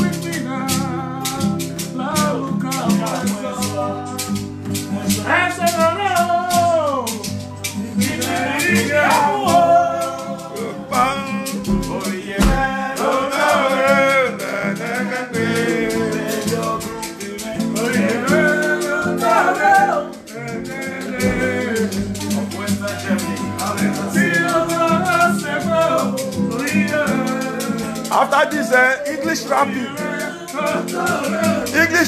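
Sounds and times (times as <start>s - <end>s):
acoustic guitar strumming: 0.0s - 32.0s
man singing: 0.0s - 32.0s.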